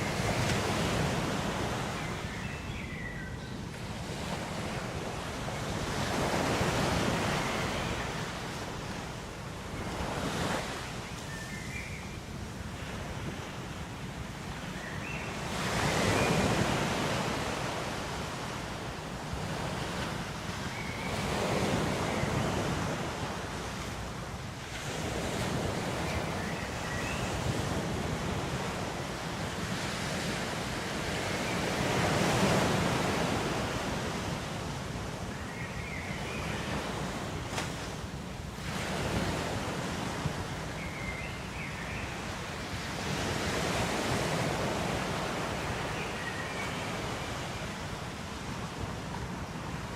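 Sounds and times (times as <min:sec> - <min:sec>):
waves breaking and washing back: 0:00.0 - 0:49.9.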